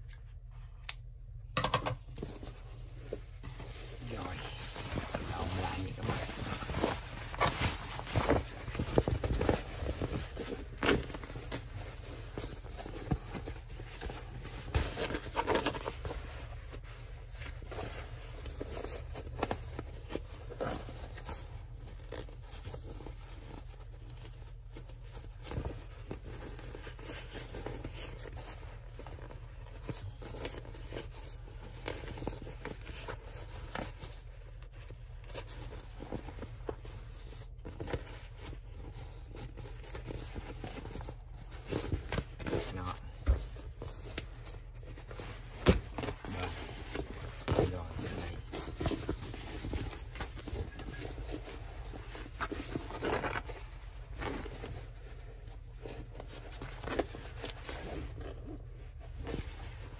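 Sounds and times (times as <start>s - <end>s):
low steady hum: 0.0s - 59.9s
fabric rustling: 2.0s - 59.9s.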